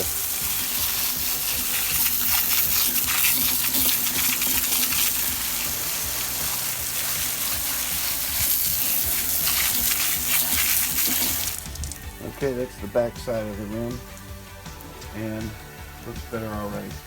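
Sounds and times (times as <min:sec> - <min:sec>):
water spraying onto wheel: 0:00.0 - 0:12.7, 0:13.3 - 0:15.9.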